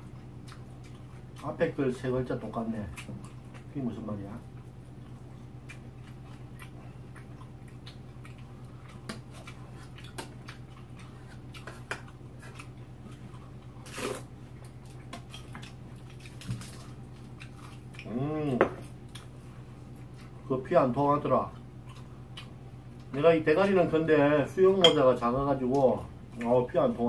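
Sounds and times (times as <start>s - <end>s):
faint chewing: 0.0s - 24.0s, 25.5s - 27.0s
steady low hum: 0.0s - 27.0s.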